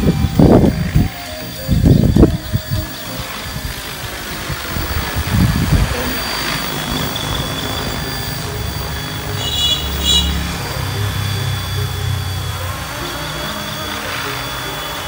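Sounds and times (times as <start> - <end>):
rc helicopter rotor whine: 0.0 - 15.0.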